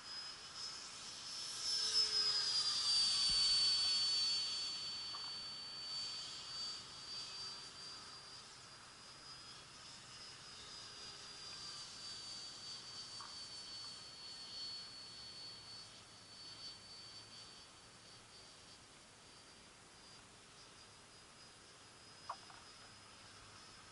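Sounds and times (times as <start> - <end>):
model plane motor whine: 0.0 - 23.9.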